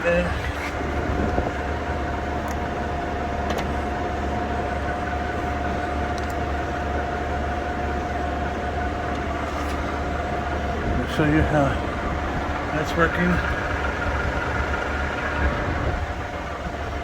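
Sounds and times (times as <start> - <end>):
drive whine: 0.0 - 17.0
lathe running: 0.0 - 17.0.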